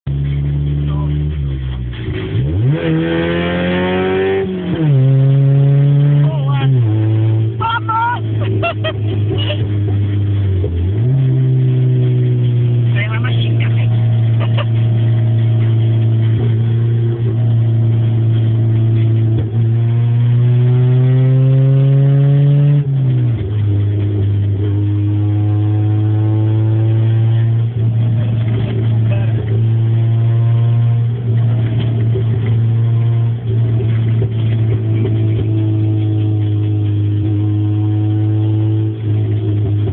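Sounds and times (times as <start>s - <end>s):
loud car engine revving: 0.1s - 39.9s.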